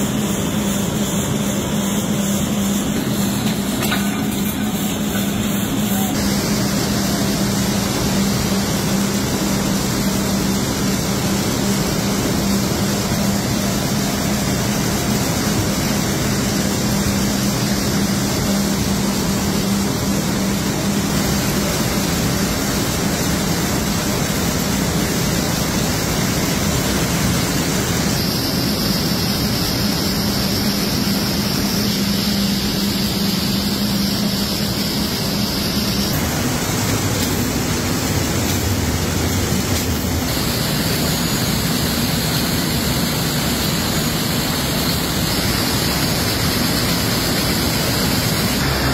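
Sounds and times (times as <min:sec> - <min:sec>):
constant low hum: 0:00.0 - 0:48.9
mill machinery running: 0:00.0 - 0:48.9.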